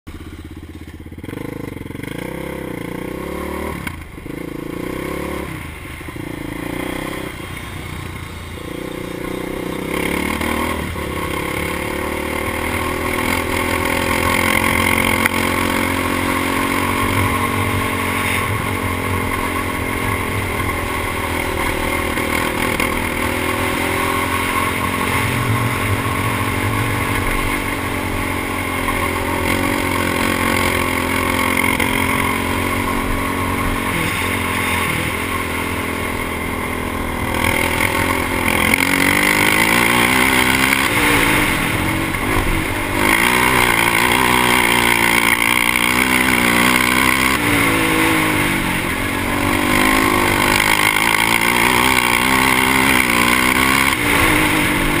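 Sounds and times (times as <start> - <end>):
quad engine revving: 0.1 - 55.0.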